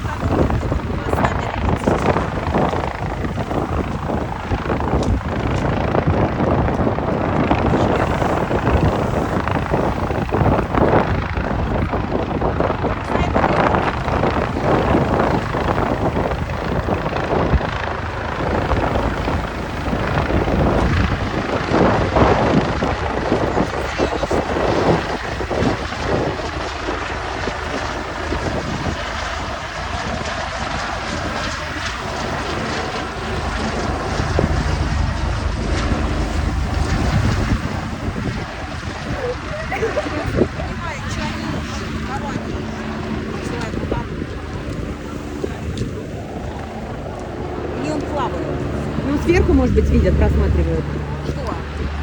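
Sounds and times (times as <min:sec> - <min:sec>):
helicopter rotor and engine: 0:00.0 - 0:52.0
wind on microphone: 0:00.0 - 0:52.0.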